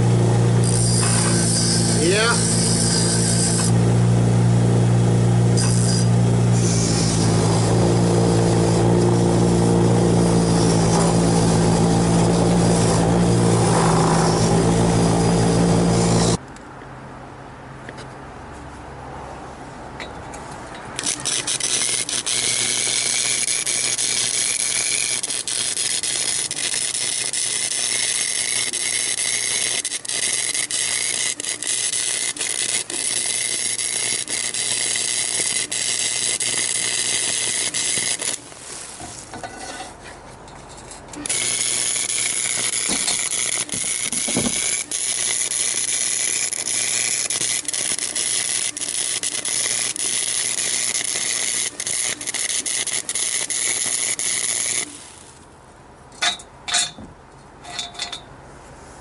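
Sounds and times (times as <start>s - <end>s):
wire brush scraping steel: 0.0s - 3.8s, 5.4s - 16.4s, 20.9s - 55.4s.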